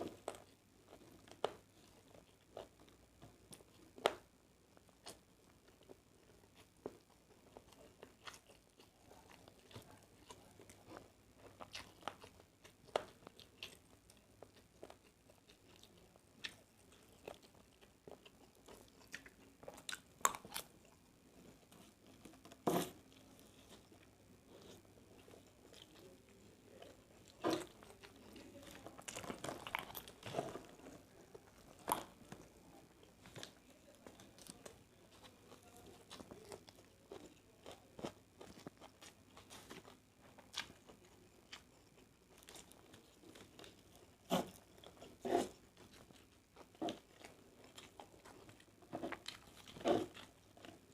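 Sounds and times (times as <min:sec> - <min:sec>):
person chewing and crunching: 0:00.0 - 0:50.9.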